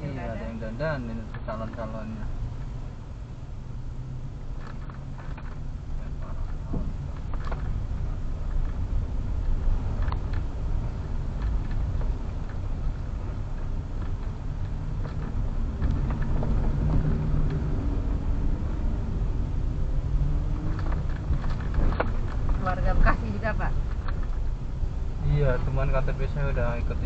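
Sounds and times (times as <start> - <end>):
car rumbling in traffic: 0.0 - 27.0
motorcycle engines: 3.6 - 25.7.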